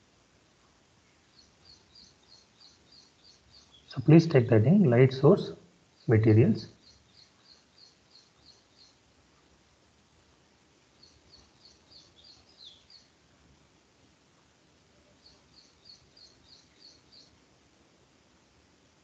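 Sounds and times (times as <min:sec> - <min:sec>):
low background hiss: 0:00.0 - 0:19.0.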